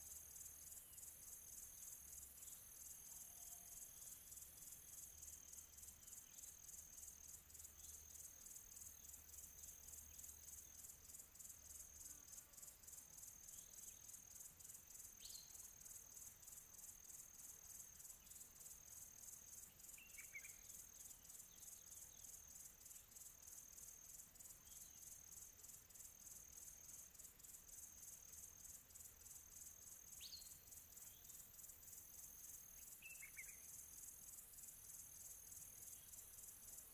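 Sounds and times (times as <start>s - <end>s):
high-pitched insect trill: 0.0s - 36.9s.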